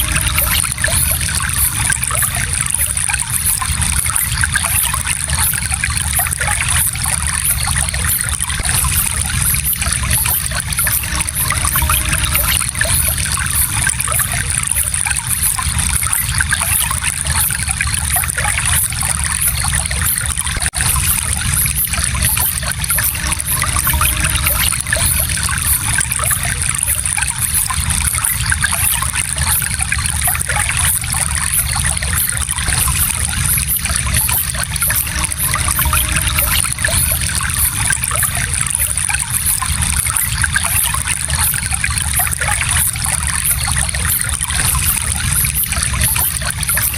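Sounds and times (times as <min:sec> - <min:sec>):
stream flowing over rocks: 0:00.0 - 0:46.9.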